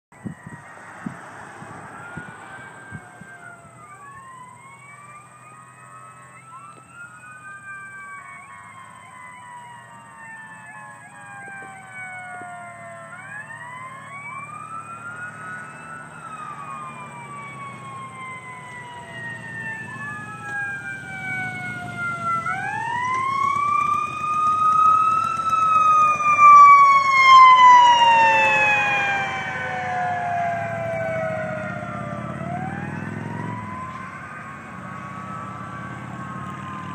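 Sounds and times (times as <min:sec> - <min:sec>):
engine and road noise: 0:00.1 - 0:36.9
sirens wailing: 0:00.1 - 0:36.9.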